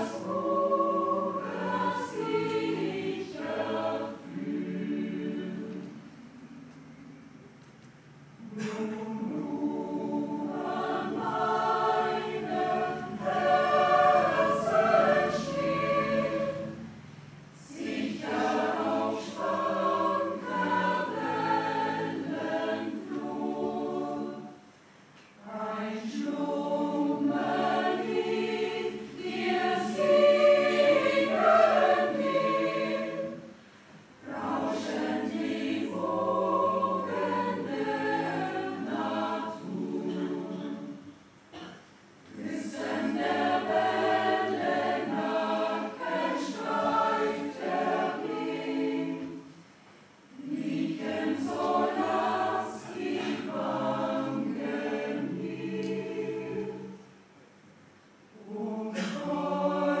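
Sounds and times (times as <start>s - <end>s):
mixed choir singing: 0.0s - 6.6s, 8.4s - 24.7s, 25.4s - 49.7s, 50.3s - 57.2s, 58.3s - 60.0s.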